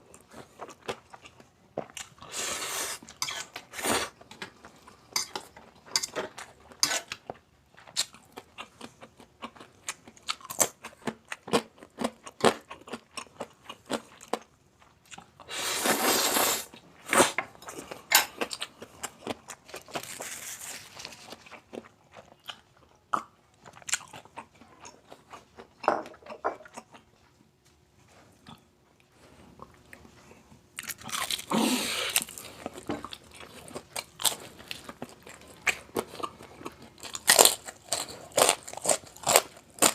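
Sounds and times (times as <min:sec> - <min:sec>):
crunching and chewing: 0:00.0 - 0:15.5, 0:16.7 - 0:27.5, 0:28.1 - 0:39.9.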